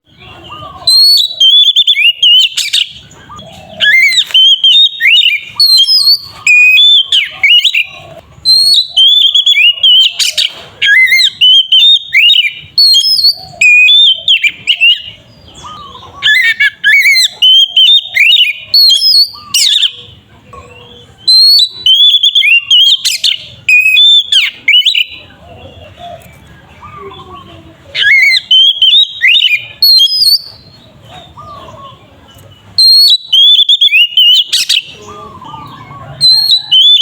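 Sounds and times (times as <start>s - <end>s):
bird singing whistled phrases: 0.0s - 20.2s, 21.0s - 25.3s, 27.1s - 30.8s, 32.8s - 37.0s.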